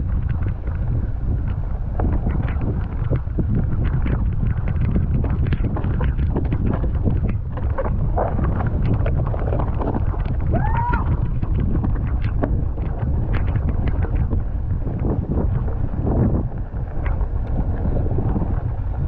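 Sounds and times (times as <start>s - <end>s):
low rumble: 0.0s - 19.0s
wind buffeting microphone: 0.0s - 19.0s.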